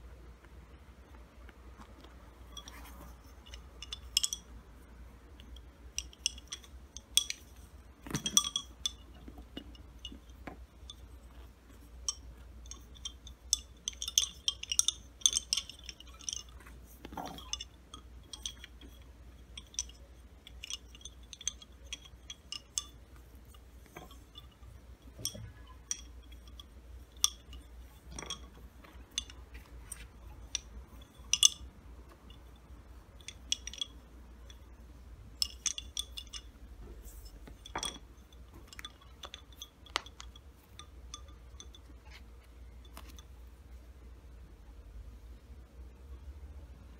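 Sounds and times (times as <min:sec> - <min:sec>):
wooden bobbins clicking: 0:00.4 - 0:43.3.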